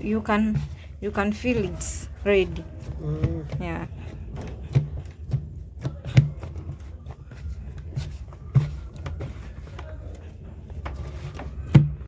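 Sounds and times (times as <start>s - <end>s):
dough thumping as kneaded: 0.0s - 12.0s.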